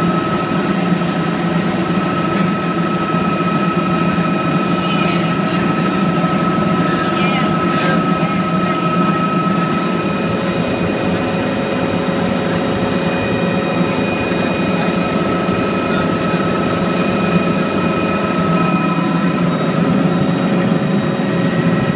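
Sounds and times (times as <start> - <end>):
helicopter engine and rotor noise: 0.0 - 21.9.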